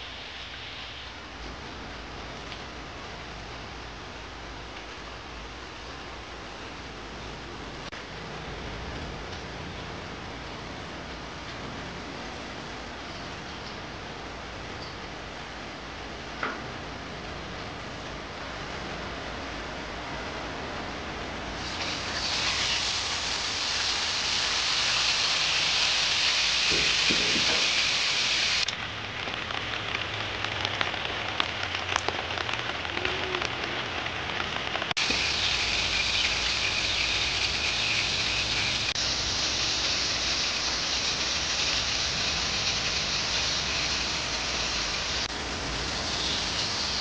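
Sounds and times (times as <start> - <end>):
heavy rain hissing: 0.0 - 16.3, 18.2 - 47.0.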